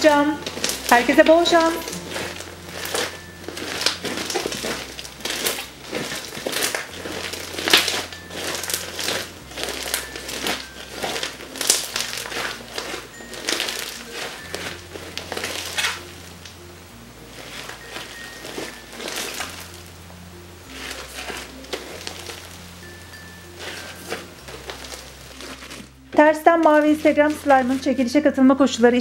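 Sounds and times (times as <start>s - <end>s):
slime squishing and crackling: 0.0s - 16.6s, 17.2s - 20.0s, 20.6s - 29.0s.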